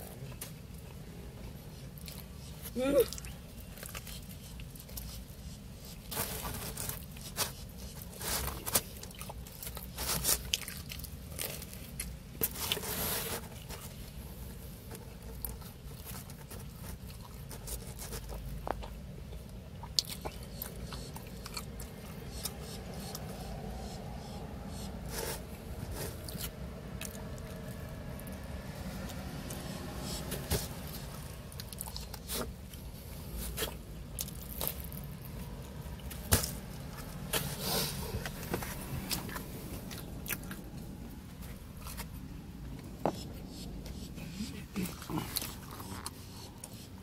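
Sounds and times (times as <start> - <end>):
person chewing pizza crust: 0.0 - 24.2, 24.8 - 47.0.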